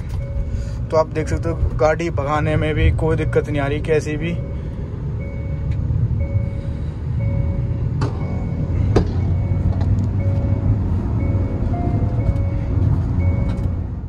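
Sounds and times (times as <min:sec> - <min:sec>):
dashboard warning chime: 0:00.0 - 0:14.0
engine and road drone: 0:00.0 - 0:14.0.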